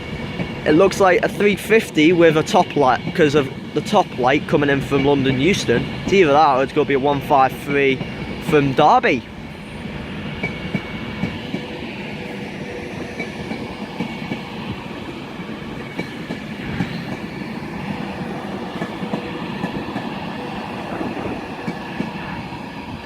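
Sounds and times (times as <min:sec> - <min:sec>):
electric train rolling: 0:00.0 - 0:23.0.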